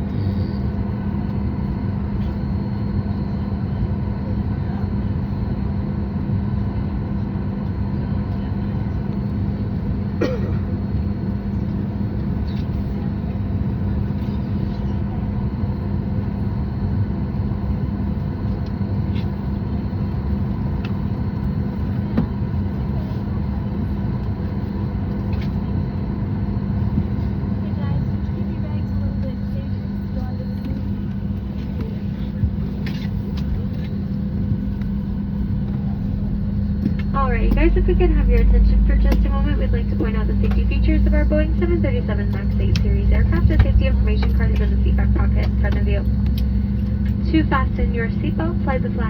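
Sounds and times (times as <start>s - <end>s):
aircraft cabin hum: 0.0s - 49.0s.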